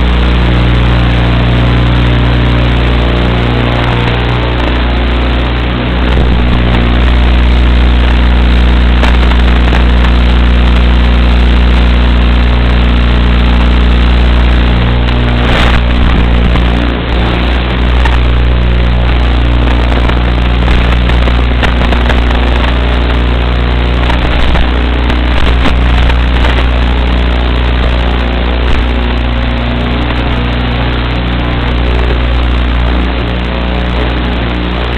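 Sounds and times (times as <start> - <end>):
loud steady hum: 0.0 - 34.9.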